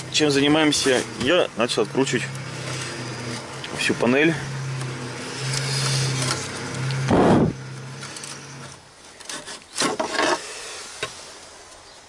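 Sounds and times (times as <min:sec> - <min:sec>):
rasping scrapes on dashboard panel: 0:00.2 - 0:11.3.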